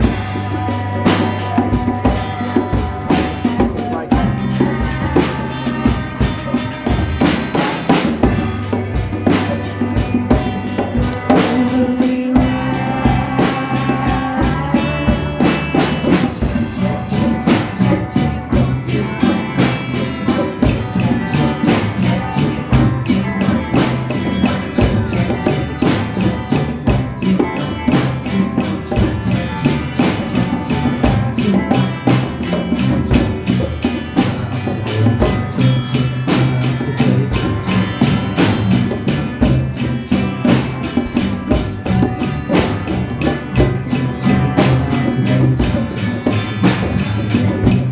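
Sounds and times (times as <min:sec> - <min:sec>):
hand drums: 0:00.0 - 0:47.9
rock band playing: 0:00.0 - 0:47.9.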